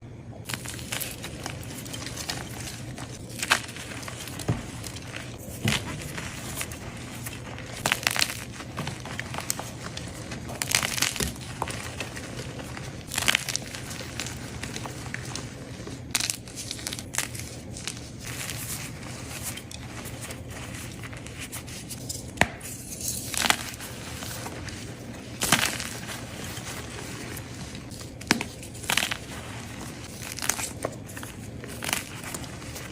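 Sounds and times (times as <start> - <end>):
chalk blocks crunching and crackling: 0.5 - 32.9.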